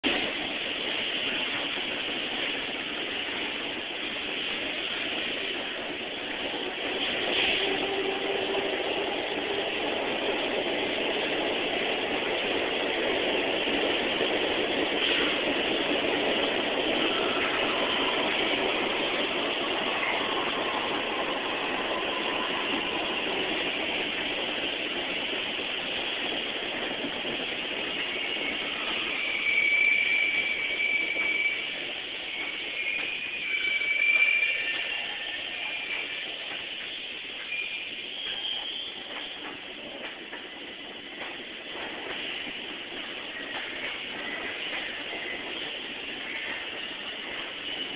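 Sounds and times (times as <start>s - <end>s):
subway train rumbling: 0.0s - 47.9s
high steady squeal: 0.1s - 47.9s.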